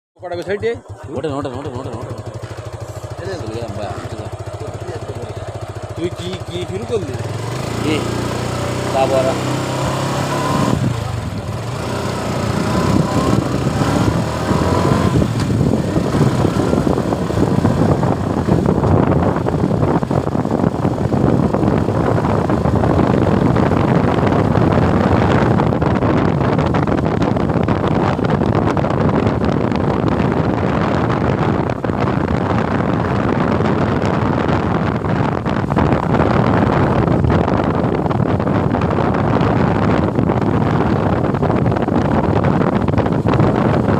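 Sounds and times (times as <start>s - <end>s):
motorcycle engine running: 0.2s - 43.9s
wind rushing over microphone: 0.2s - 43.9s.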